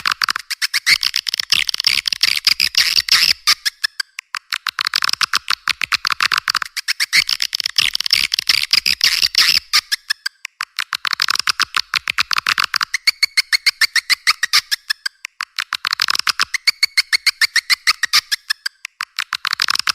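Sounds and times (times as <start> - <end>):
swiftlet chirping clicks: 0.0 - 19.9.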